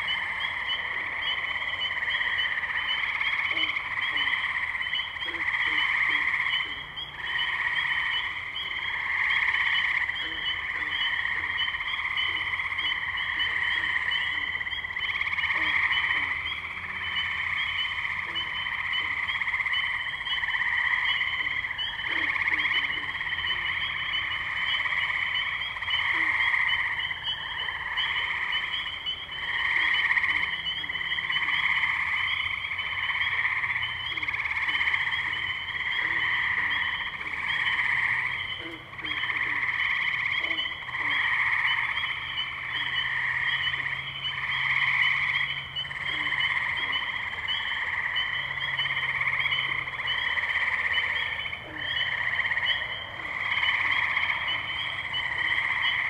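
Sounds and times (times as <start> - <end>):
tree frogs chorus: 0.0 - 56.0.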